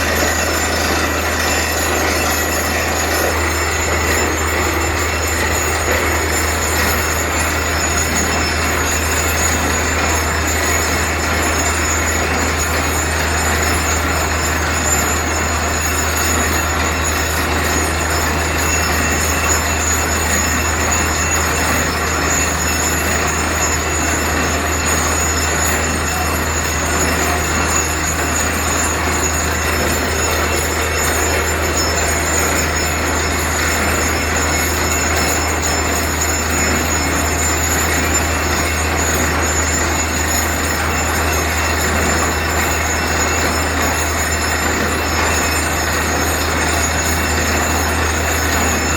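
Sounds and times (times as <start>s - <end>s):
drilling rig running: 0.0s - 48.9s.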